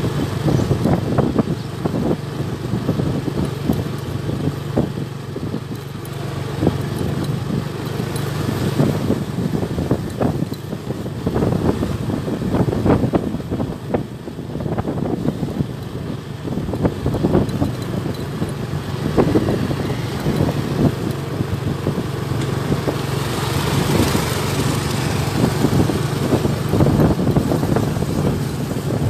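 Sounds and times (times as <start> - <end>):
vehicle engine humming: 0.0 - 29.0
wind buffeting microphone: 0.0 - 29.0.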